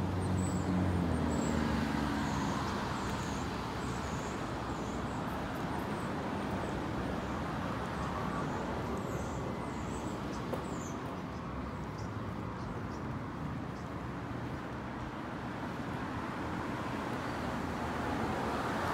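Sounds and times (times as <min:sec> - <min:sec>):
street traffic noise: 0:00.0 - 0:18.9.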